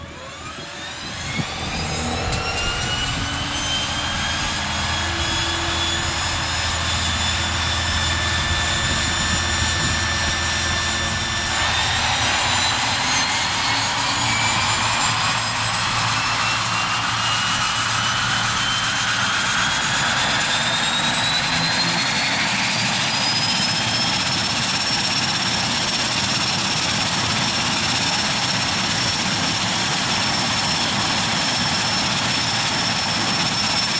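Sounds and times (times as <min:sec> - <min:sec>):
airplane engine whine: 0:00.0 - 0:33.9.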